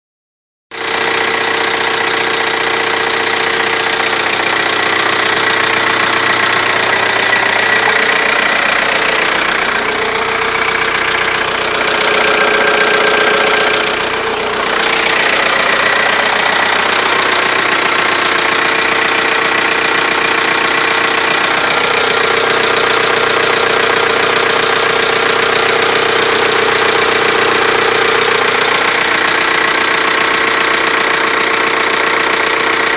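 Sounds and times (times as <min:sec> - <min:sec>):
diesel engine running: 0:00.8 - 0:32.9
abnormal engine valve noise: 0:03.7 - 0:31.8.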